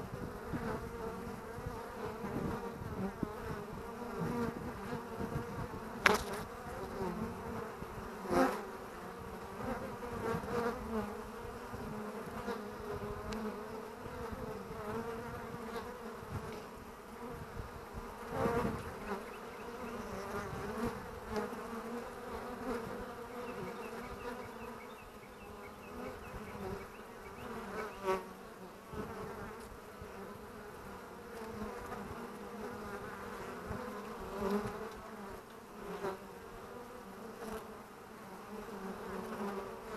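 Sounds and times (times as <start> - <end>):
bees buzzing: 0.0 - 39.9
single bee buzzing close: 0.0 - 39.9.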